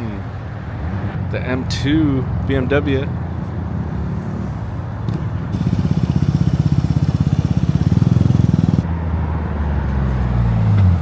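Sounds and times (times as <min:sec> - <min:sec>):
car engine and exhaust at low revs: 0:02.1 - 0:11.0.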